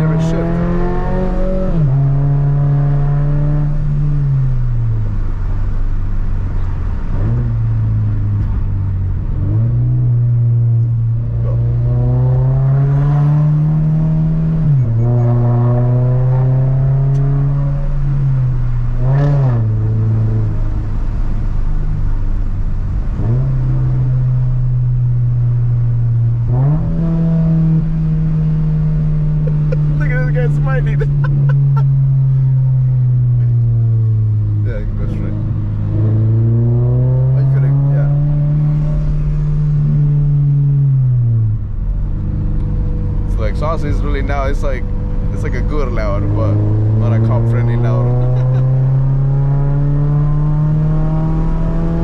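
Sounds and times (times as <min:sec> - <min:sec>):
car engine revving through gears: 0:00.0 - 0:52.0.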